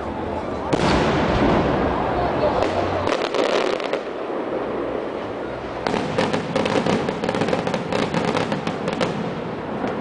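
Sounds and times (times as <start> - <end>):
fireworks crackling: 0.7 - 10.0.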